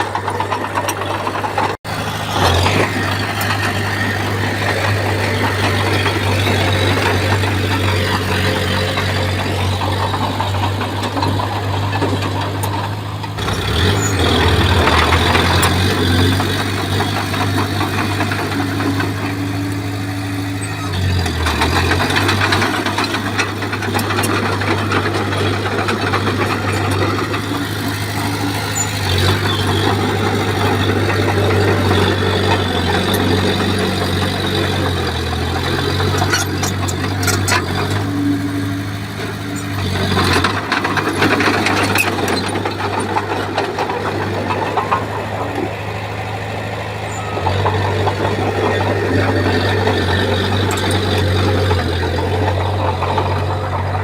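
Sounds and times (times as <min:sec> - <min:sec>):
bulldozer diesel engine running: 0:00.0 - 0:54.0
metallic clanks and rattles: 0:02.4 - 0:54.0.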